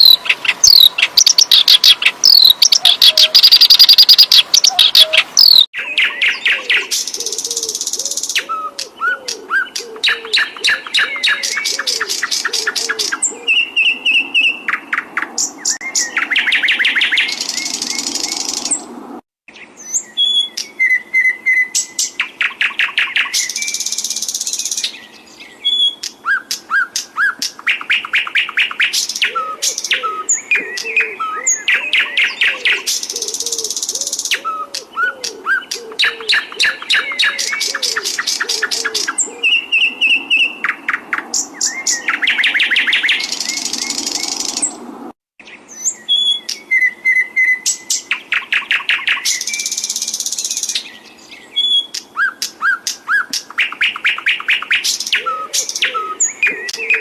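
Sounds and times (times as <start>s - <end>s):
recorded songbird song: 0.0s - 57.0s.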